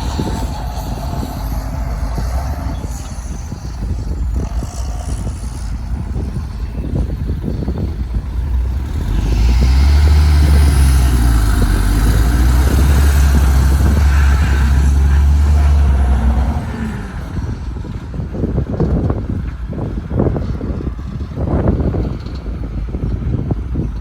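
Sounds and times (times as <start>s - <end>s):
diesel engine pulling hard: 0.0s - 24.0s.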